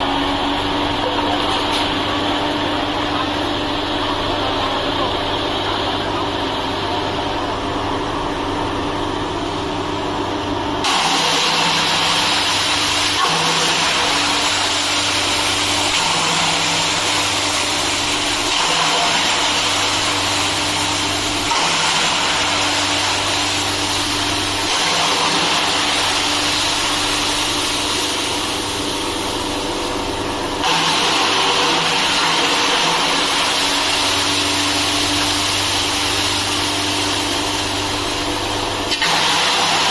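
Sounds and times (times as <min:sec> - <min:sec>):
wood chipper shredding bamboo: 0:00.0 - 0:39.9.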